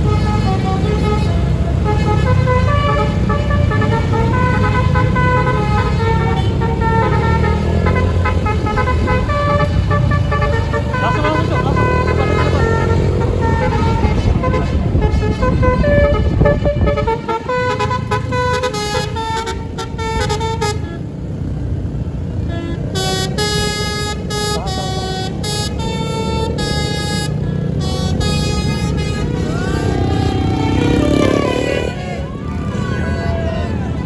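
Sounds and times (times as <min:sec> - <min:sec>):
musical air horn playing tune: 0:00.0 - 0:21.1, 0:22.4 - 0:32.4.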